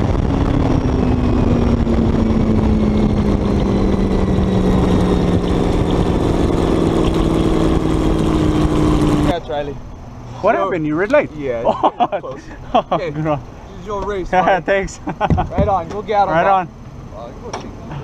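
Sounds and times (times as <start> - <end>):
dragster engine droning: 0.0 - 18.0.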